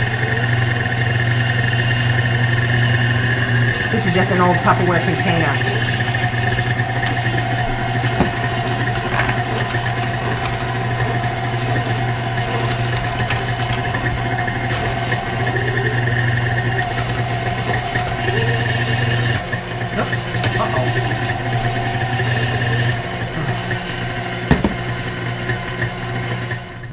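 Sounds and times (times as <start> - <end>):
stand mixer motor hum: 0.0 - 26.9.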